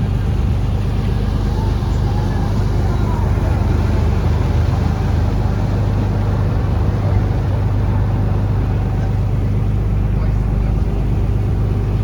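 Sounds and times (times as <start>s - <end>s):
boat engine droning: 0.0s - 12.0s
rushing water: 0.0s - 12.0s.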